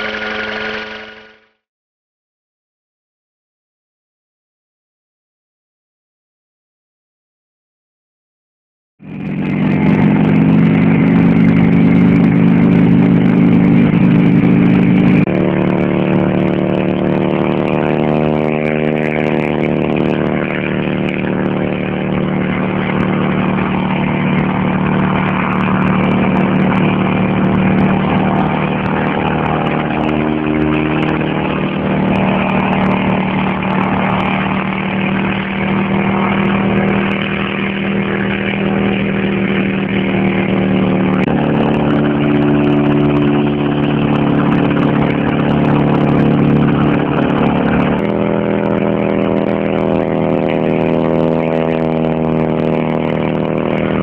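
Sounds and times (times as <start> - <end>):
helicopter engine running: 0.0 - 1.6, 9.0 - 54.0.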